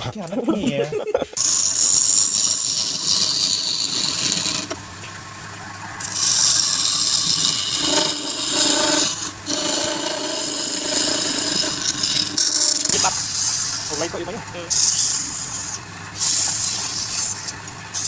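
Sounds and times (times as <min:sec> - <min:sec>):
lathe tool scraping wood: 0:01.4 - 0:04.8, 0:06.0 - 0:18.0.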